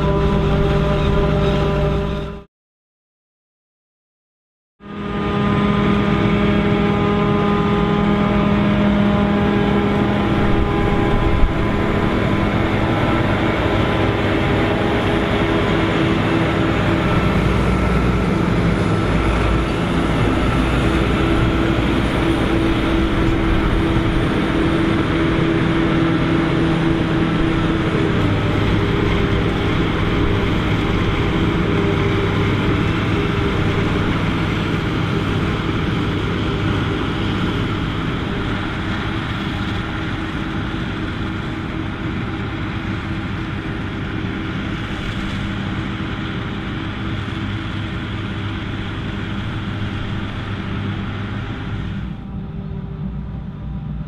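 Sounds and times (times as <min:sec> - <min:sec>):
tractor engine: 0:00.0 - 0:02.5, 0:04.8 - 0:54.0.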